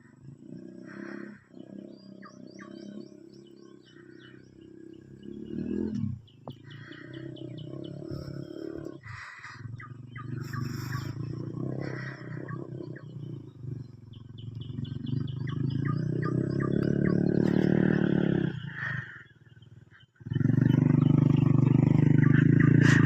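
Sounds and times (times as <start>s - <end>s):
birds chirping: 0.0s - 23.0s
engine running at low revs: 0.0s - 23.0s.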